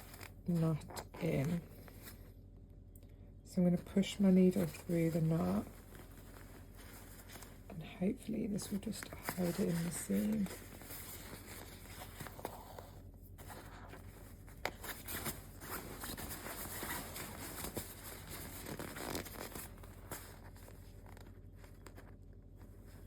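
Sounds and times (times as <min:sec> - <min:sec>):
fabric rustling and scratching: 0:00.0 - 0:02.3, 0:03.8 - 0:23.0.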